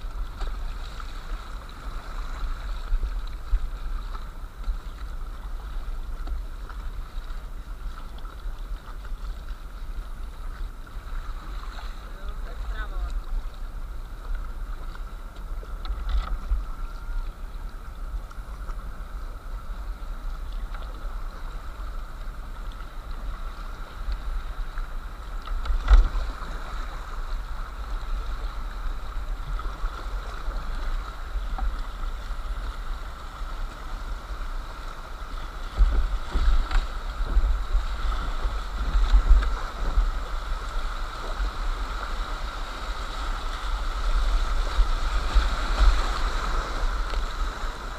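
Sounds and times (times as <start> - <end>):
paddle splashes: 0.0 - 47.9
river water rushing over gravel: 0.0 - 47.9
wind on microphone: 0.0 - 47.9.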